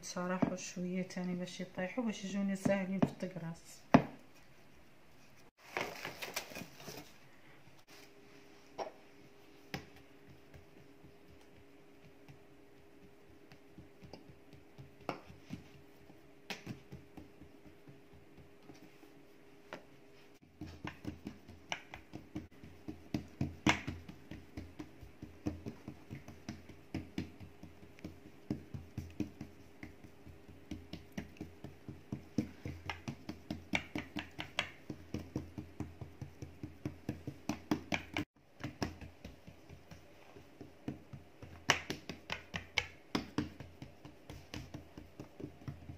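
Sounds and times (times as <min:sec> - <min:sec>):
fingertips patting dough: 0:00.0 - 0:04.4, 0:08.8 - 0:45.9.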